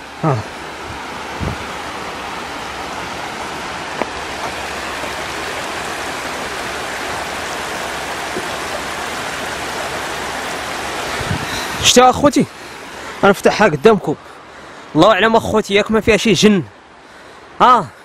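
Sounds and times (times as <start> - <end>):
floodwater rushing over rocks: 0.0 - 18.0.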